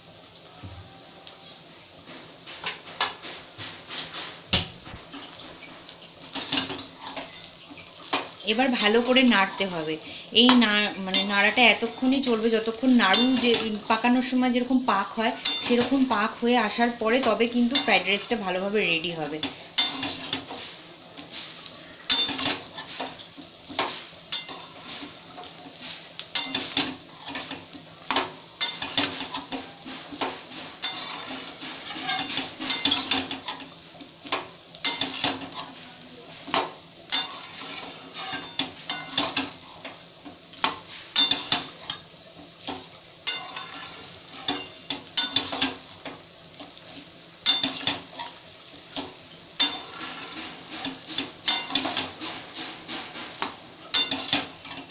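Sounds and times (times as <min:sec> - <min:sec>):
rice sizzling: 0:00.0 - 0:54.9
metal spatula scraping a wok: 0:05.1 - 0:54.9.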